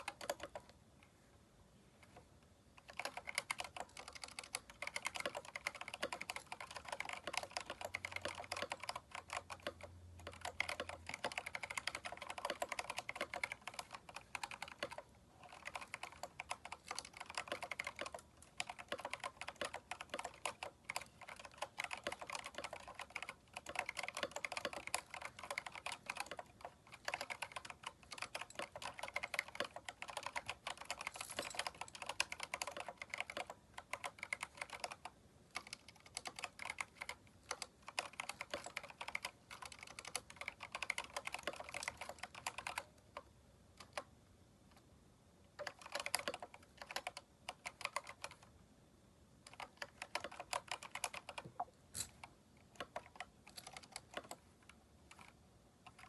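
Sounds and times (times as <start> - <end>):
mechanical keyboard typing: 0.0 - 0.8, 2.0 - 44.1, 45.5 - 48.5, 49.4 - 56.0.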